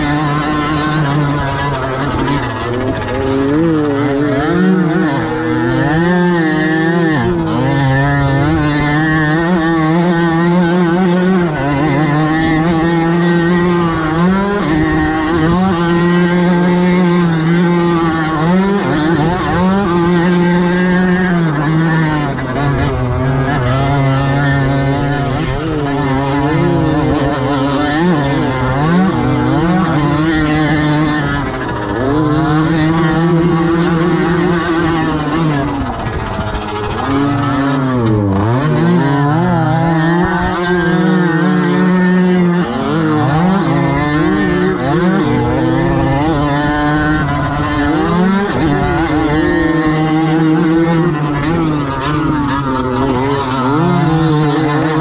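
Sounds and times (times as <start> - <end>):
moped engine revving: 0.0 - 55.0.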